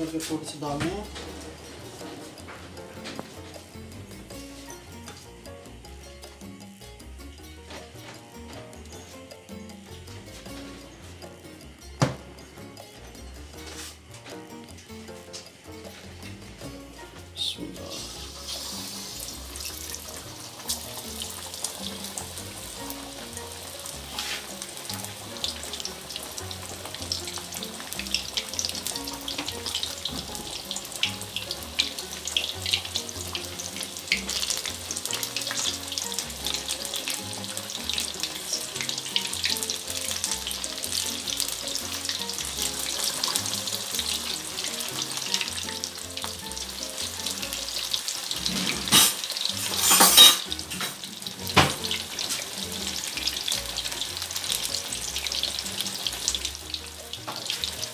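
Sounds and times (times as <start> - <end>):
chicken deep-frying in oil: 0.0 - 57.9.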